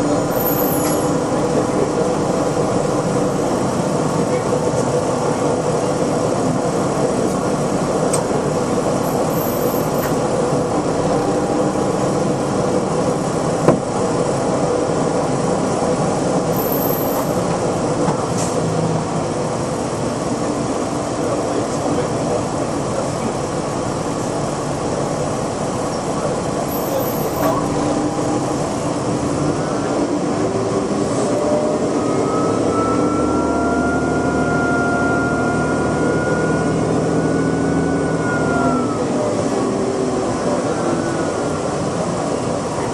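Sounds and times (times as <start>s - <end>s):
bus engine and road noise: 0.0s - 42.9s.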